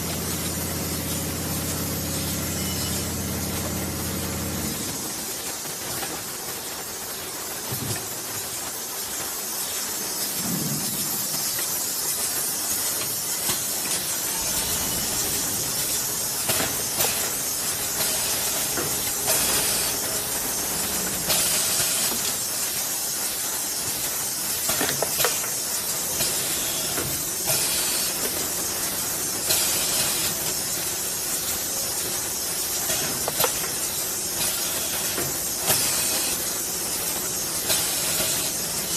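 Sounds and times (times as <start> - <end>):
machine hissing: 0.0 - 38.9.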